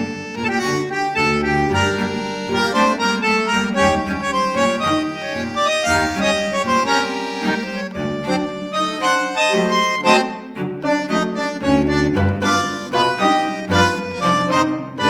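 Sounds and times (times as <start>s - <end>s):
background music with reed melody: 0.0s - 15.0s.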